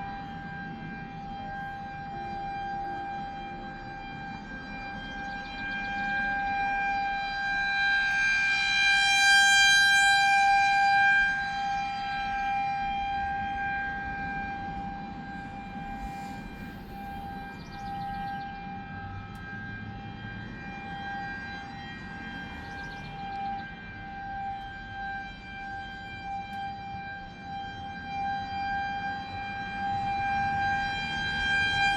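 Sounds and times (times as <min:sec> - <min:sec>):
warning siren steady tone: 0:00.0 - 0:31.9.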